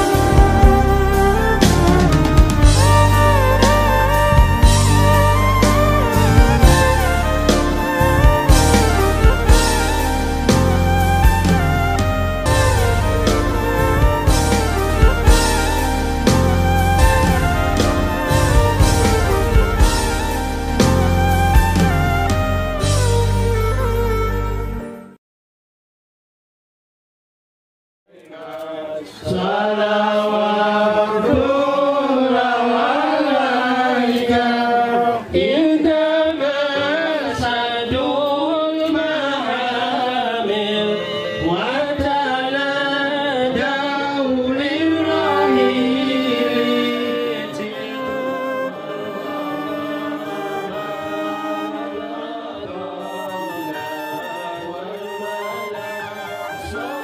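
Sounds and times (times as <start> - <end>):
person singing: 0.0 - 22.9, 28.4 - 57.0
instrumental backing music: 0.0 - 25.2, 36.3 - 57.0.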